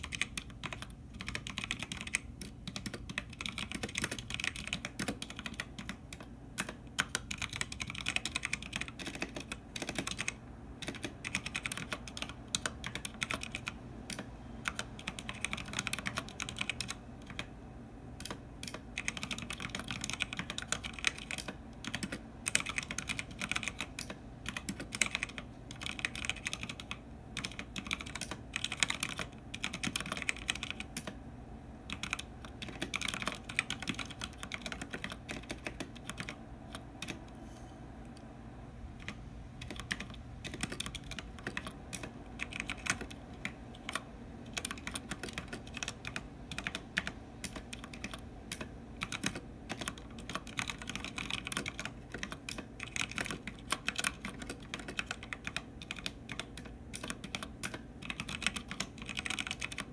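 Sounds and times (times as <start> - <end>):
typing on mechanical keyboard: 0.0 - 17.5, 18.2 - 31.2, 31.9 - 37.3, 39.0 - 59.9.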